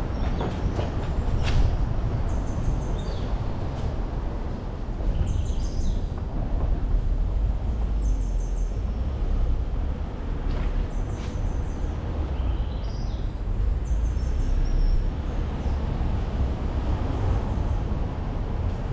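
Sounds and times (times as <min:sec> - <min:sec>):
engine and tyre rumble: 0:00.0 - 0:18.9.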